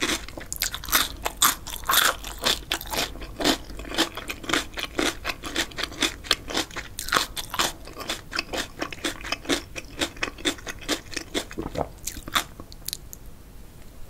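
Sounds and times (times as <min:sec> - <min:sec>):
crunchy chewing: 0:00.0 - 0:13.1.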